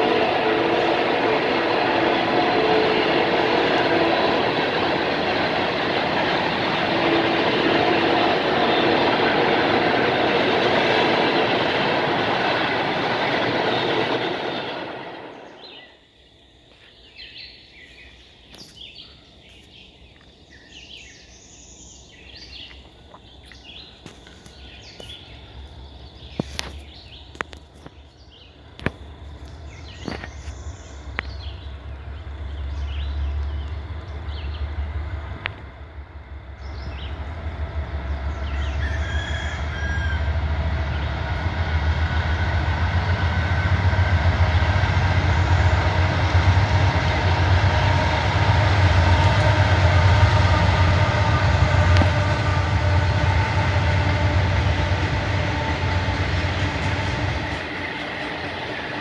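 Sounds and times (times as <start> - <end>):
freight train wheels rumbling: 0.0 - 15.9, 20.7 - 59.0.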